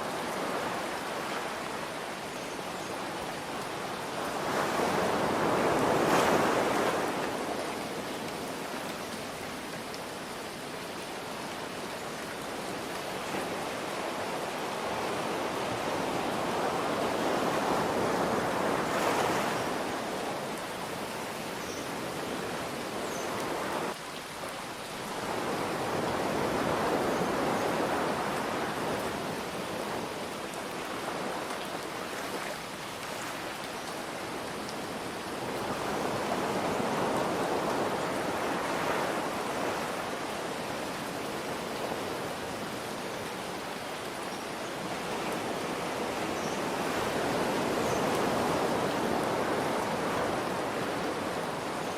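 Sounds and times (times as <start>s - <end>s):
rain hiss: 0.0s - 51.9s
ocean waves breaking ashore: 3.2s - 24.0s, 25.0s - 51.9s.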